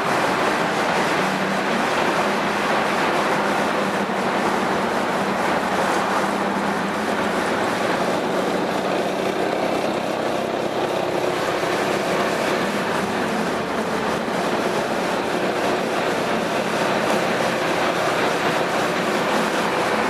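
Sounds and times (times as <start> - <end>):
scooter engine droning: 0.0 - 20.0.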